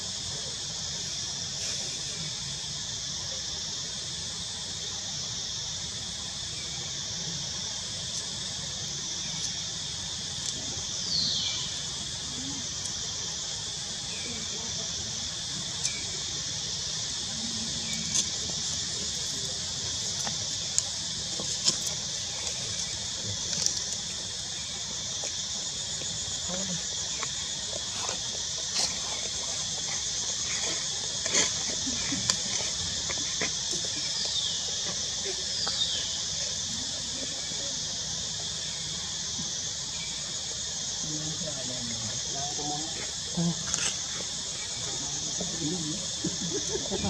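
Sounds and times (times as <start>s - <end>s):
insect chorus drone: 0.0s - 47.0s.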